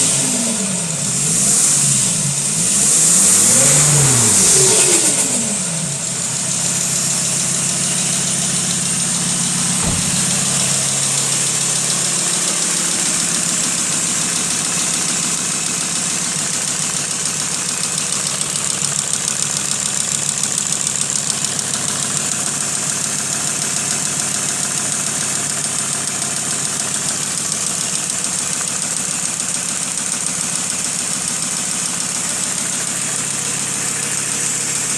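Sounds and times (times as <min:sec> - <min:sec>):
car engine idling: 0:00.0 - 0:34.9
engine knock: 0:00.0 - 0:34.9.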